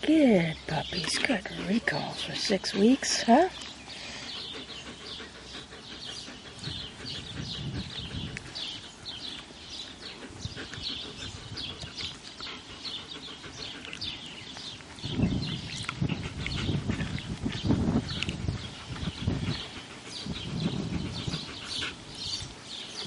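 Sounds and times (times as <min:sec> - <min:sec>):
puppies chirping: 0:00.6 - 0:23.0.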